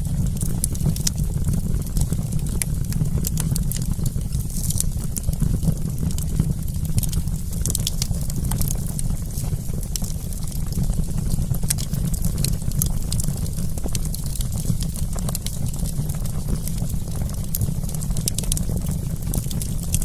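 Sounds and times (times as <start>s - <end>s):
campfire crackling: 0.0s - 20.0s
low steady rumble: 0.0s - 20.0s.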